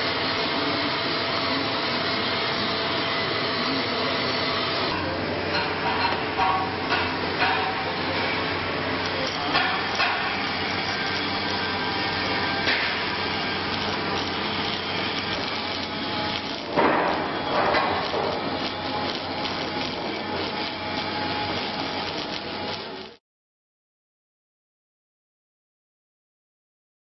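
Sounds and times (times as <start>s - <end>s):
welding arc hissing and crackling: 0.0s - 23.2s.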